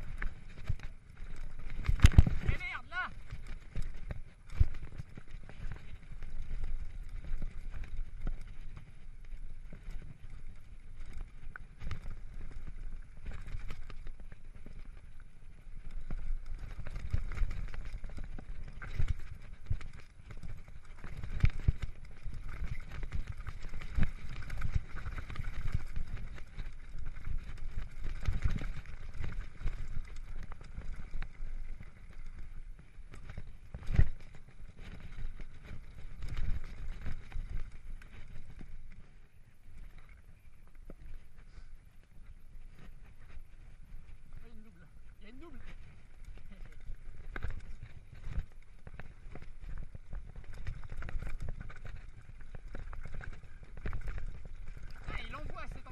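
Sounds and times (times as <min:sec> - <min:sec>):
bike knocking and rattling: 0:00.0 - 0:55.9
bike tyre rumble on dirt: 0:00.0 - 0:55.9.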